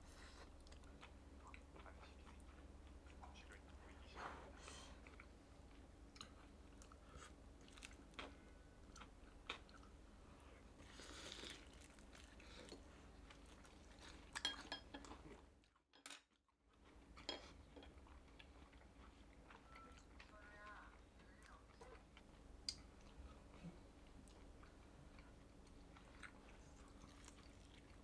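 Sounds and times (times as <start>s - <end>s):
quiet chewing with crunches: 0.0s - 16.1s, 16.7s - 28.0s.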